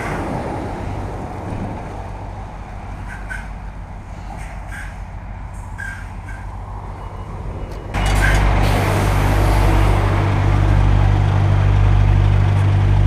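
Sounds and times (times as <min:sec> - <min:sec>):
diesel truck engine idling: 0:02.2 - 0:13.0.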